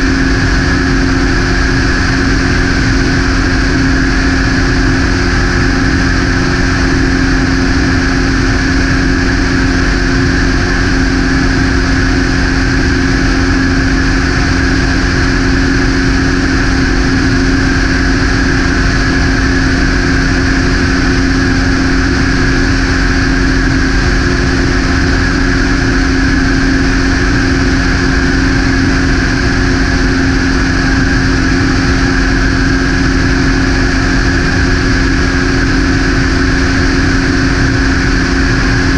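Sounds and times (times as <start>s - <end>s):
propeller aircraft droning: 0.0s - 38.9s.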